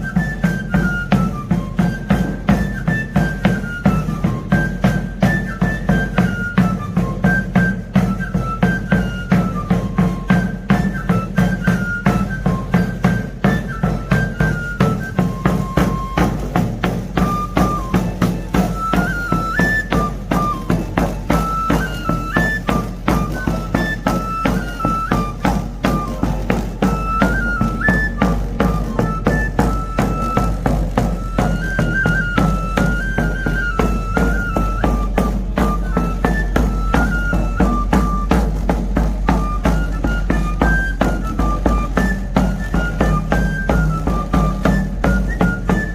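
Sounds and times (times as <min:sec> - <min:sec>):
shrill pipe melody: 0:00.0 - 0:45.9
tabor drum strokes: 0:00.0 - 0:45.9.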